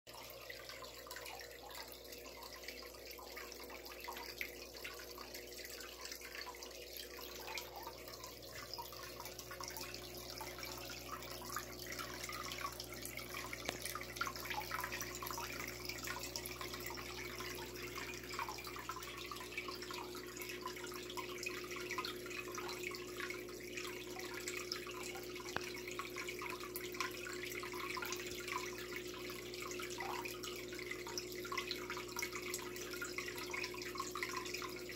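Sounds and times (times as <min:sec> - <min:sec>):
faint steady hum: 0:00.1 - 0:34.9
water trickling and bubbling: 0:00.1 - 0:34.9.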